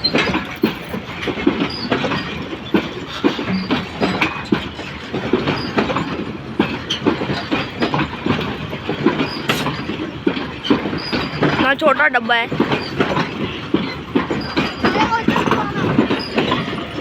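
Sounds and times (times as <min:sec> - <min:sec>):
rumble of passing train: 0:00.0 - 0:17.0
train wheels clattering over joints: 0:00.0 - 0:17.0.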